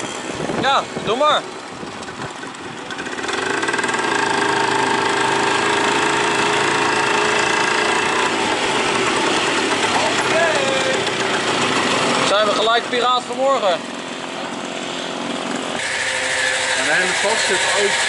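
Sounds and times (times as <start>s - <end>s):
moped engine running: 0.0s - 18.0s.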